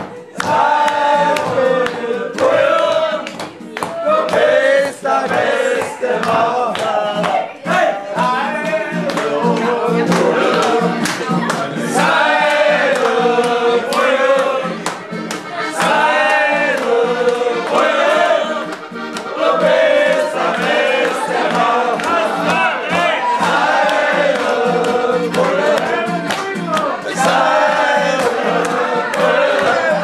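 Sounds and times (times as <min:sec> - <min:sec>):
regular sharp beat: 0:00.0 - 0:30.0
men singing in chorus: 0:00.4 - 0:03.3, 0:04.0 - 0:11.0, 0:11.6 - 0:14.8, 0:15.8 - 0:18.7, 0:19.3 - 0:30.0.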